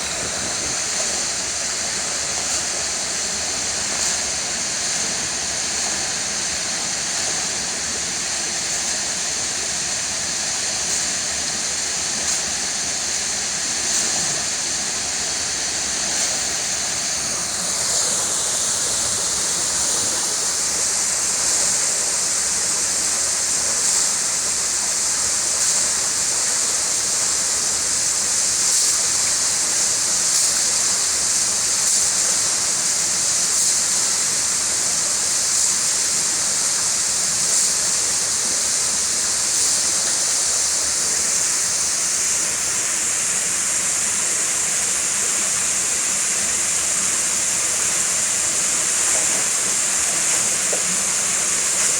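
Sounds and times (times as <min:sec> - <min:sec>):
water rushing in a tank: 0:00.0 - 0:51.9.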